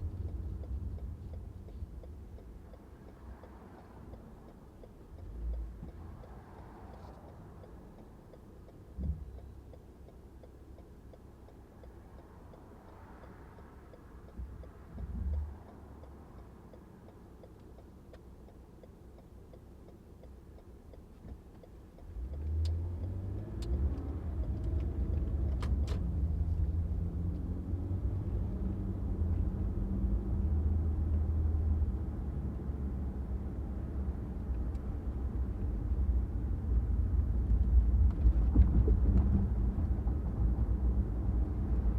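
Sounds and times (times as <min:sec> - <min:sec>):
car engine and road rumble: 0:00.0 - 0:41.9.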